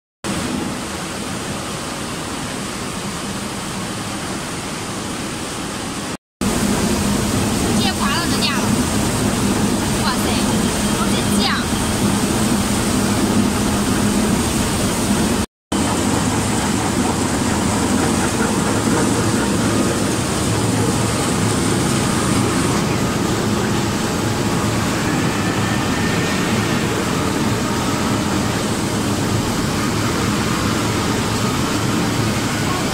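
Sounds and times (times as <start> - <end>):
sand washing machinery running: 0.2 - 32.9.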